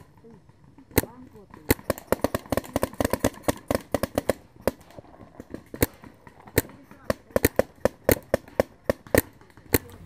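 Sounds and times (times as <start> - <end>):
paintball markers firing: 0.0 - 10.0.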